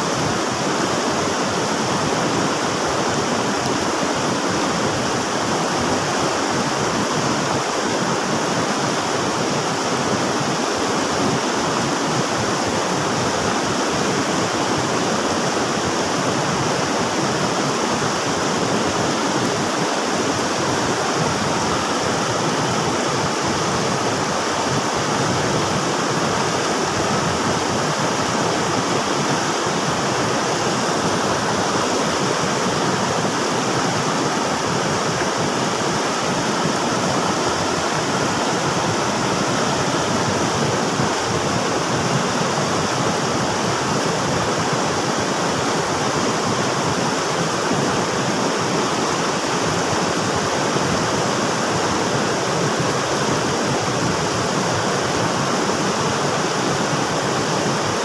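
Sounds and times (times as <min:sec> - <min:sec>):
river water rushing and splashing: 0:00.0 - 0:58.0.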